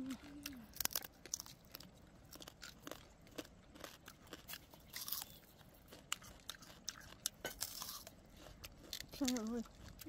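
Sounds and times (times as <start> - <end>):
person chewing crunchy food: 0.0 - 10.0.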